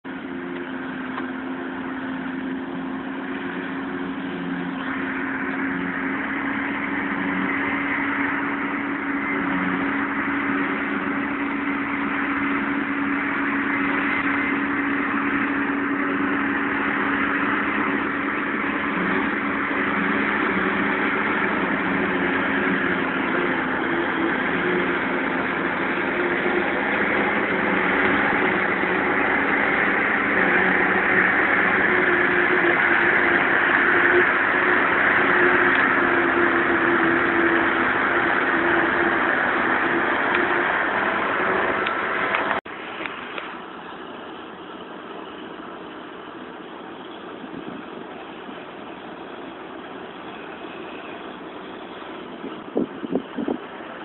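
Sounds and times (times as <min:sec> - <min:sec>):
tractor and harvester engine drone: 0:00.0 - 0:54.0.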